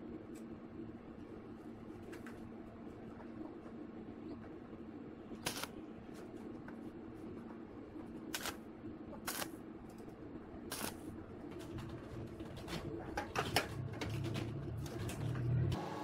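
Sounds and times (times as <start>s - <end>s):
low workshop hum: 0.0s - 16.0s.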